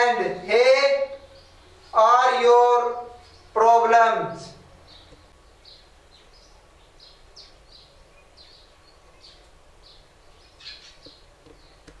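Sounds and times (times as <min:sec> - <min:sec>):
small bird chirping: 0:01.0 - 0:03.6, 0:04.7 - 0:12.0.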